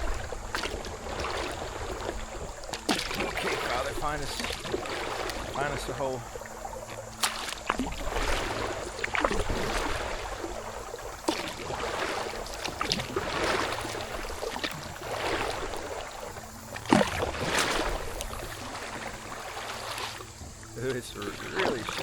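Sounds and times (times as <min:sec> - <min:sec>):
paddle splashing through water: 0:00.0 - 0:22.0.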